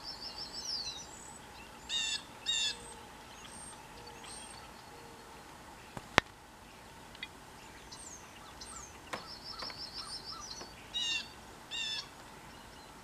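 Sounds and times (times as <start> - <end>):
bird trill: 0.0 - 6.0, 7.2 - 13.0
harsh buzzy bird calls: 0.0 - 13.0
small birds chirping: 0.0 - 13.0.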